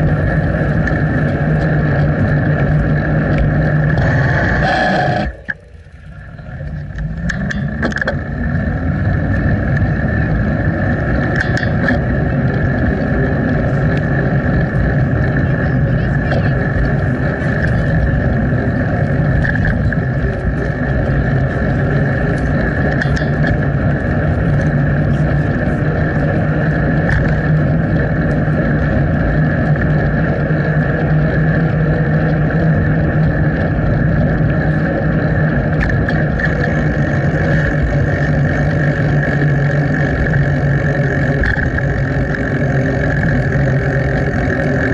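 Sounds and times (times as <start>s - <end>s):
tyre and road rumble: 0.0s - 44.9s
wind over microphone: 0.0s - 44.9s.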